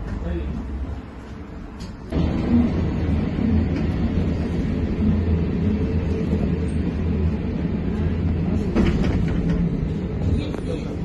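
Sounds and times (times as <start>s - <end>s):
trolleybus low rumble: 0.0s - 11.0s.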